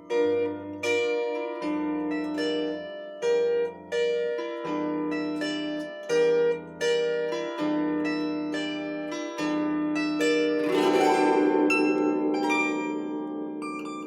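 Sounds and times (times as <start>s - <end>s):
plucked bandura melody: 0.0s - 14.0s.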